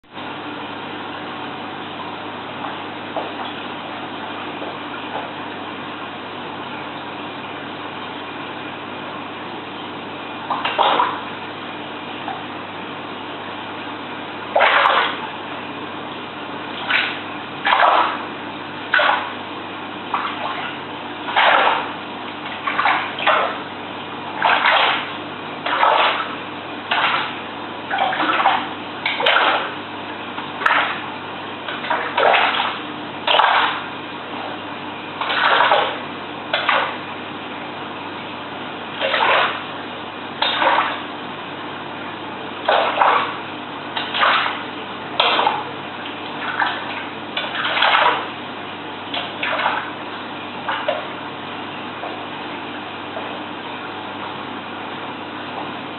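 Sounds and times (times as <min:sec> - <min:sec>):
steady low hum: 0:00.0 - 0:55.9
water splashing in aquarium: 0:00.2 - 0:55.9.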